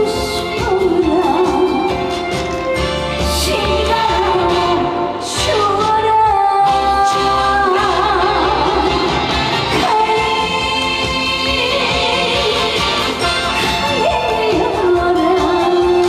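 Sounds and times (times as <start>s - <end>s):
woman singing with vibrato: 0.0s - 2.2s, 3.2s - 16.0s
band with steady bass: 0.0s - 16.0s.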